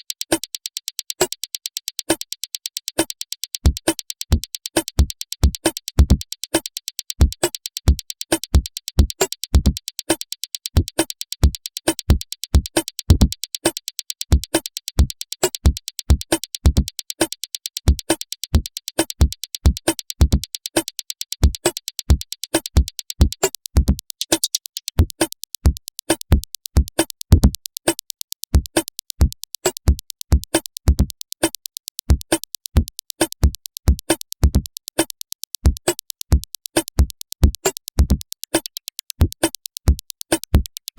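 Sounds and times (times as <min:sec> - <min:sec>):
fast high ticking: 0:00.0 - 0:40.9.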